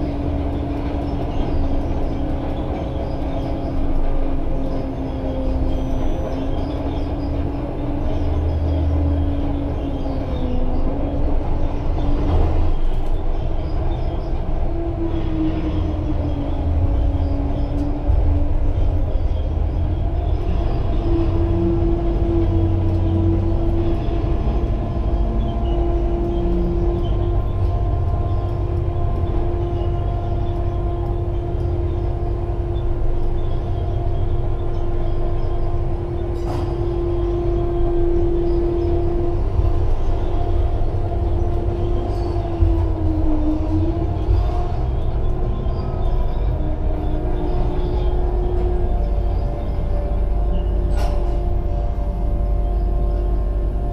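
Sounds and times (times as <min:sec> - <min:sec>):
crane machinery low drone: 0:00.0 - 0:53.9
crane machinery whine: 0:00.0 - 0:53.9.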